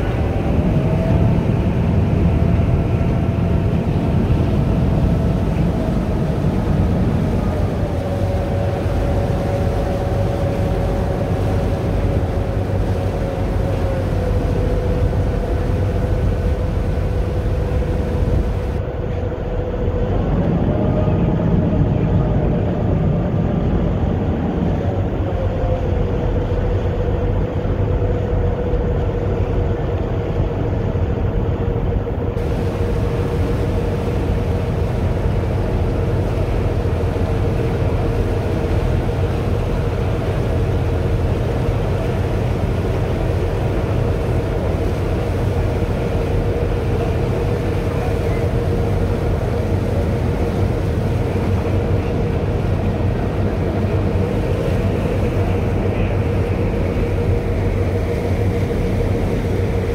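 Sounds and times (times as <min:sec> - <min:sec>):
ferry engine drone: 0:00.0 - 0:59.9
rushing water wake: 0:00.0 - 0:59.9
wind noise: 0:00.0 - 0:59.9.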